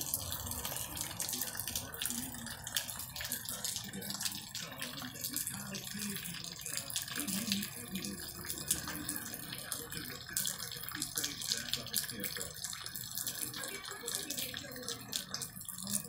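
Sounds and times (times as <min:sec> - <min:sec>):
drops splashing close by: 0:00.0 - 0:16.0
rain falling on wet concrete: 0:00.0 - 0:16.0.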